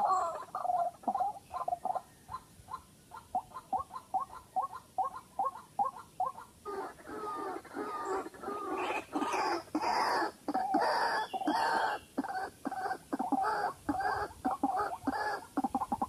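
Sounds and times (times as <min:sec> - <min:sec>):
waterhen calling repeated notes: 0:00.0 - 0:16.0.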